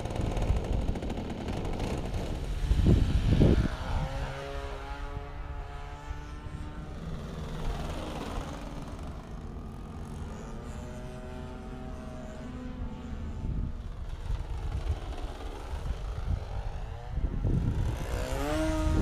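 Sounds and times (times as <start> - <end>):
model plane engine flying past: 0.0 - 19.0.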